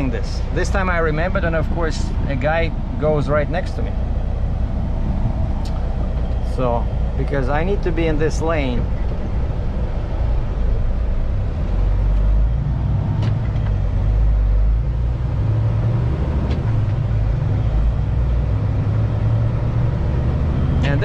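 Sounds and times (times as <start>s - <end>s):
diesel truck engine rumble: 0.0s - 21.0s.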